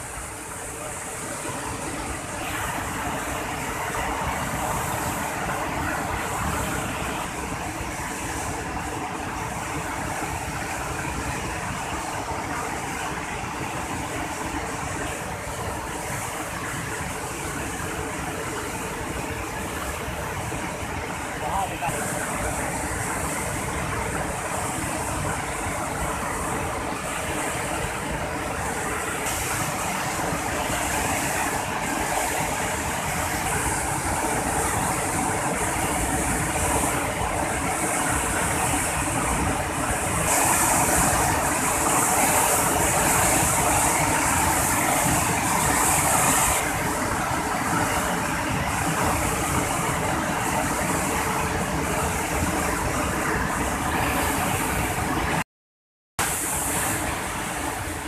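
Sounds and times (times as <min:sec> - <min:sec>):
floodwater rushing through gates: 0:00.0 - 0:55.4.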